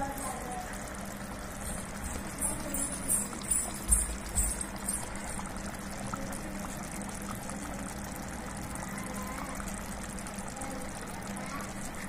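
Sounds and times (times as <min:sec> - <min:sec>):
gravy simmering in a pot: 0:00.0 - 0:12.0.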